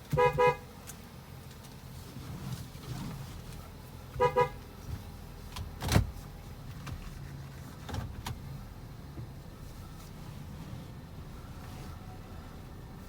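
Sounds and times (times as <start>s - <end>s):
car idling with low hum: 0.0s - 13.0s.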